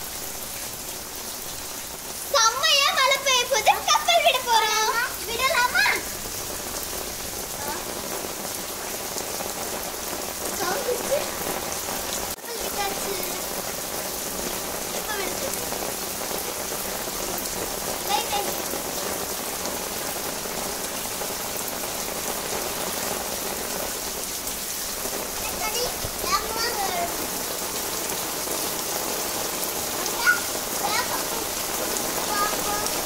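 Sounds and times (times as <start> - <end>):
rain on wet floor and water: 0.0 - 33.0.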